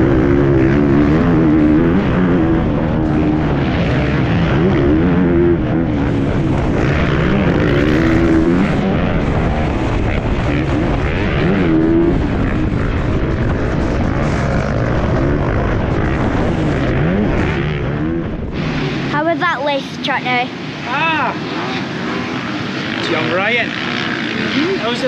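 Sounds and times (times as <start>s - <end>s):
motocross bike engines revving: 0.0s - 25.0s.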